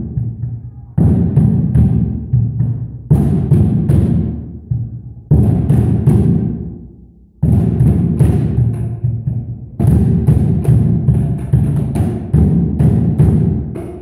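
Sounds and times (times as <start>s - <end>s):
tyre drums booming hits: 0.0s - 6.7s, 7.4s - 14.0s.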